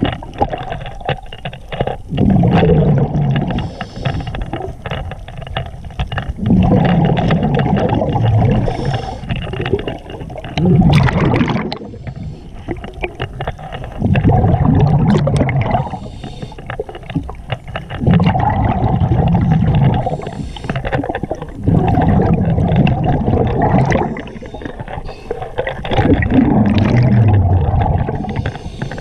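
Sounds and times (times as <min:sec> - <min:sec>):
exhaled bubbles rumbling underwater: 0:00.0 - 0:29.0.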